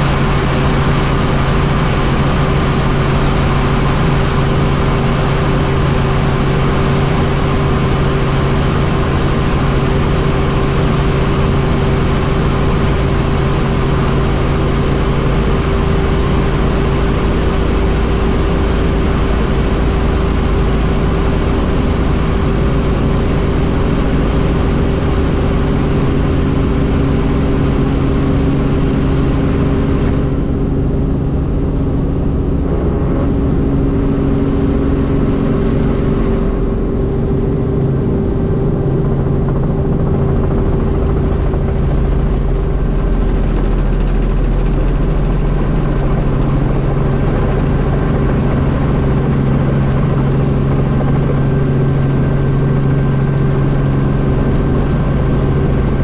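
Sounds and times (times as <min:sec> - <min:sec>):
helicopter drone: 0:00.0 - 0:56.0.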